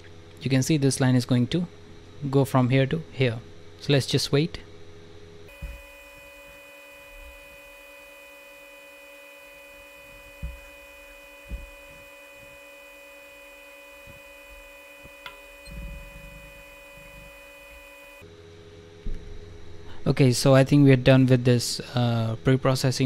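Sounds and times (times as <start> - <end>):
high-pitched electrical hum: 0.0 - 23.0.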